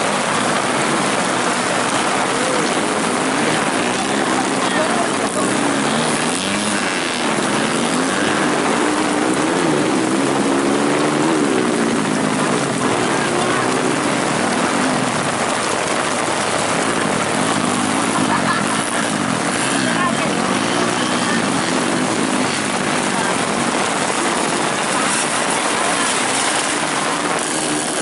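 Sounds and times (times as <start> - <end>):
racing motorcycles revving: 0.0 - 28.0.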